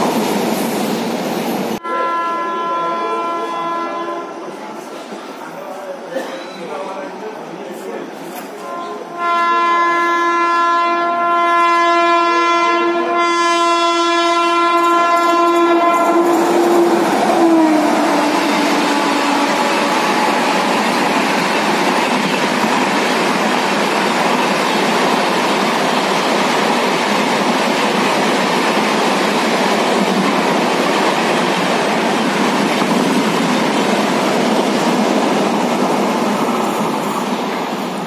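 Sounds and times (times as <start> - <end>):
passenger train passing at speed: 0.0 - 38.0.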